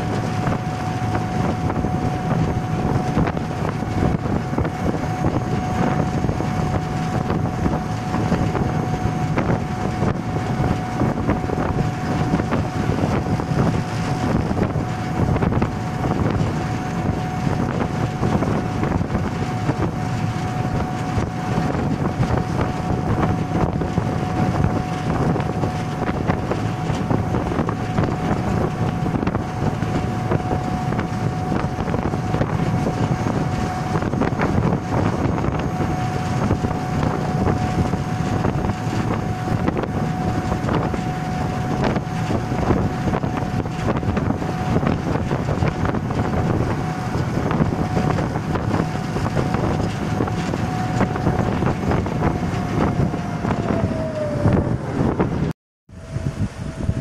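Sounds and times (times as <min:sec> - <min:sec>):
diesel engines running: 0:00.0 - 0:57.0
steady high whine: 0:00.0 - 0:57.0
wind buffeting microphone: 0:00.0 - 0:57.0.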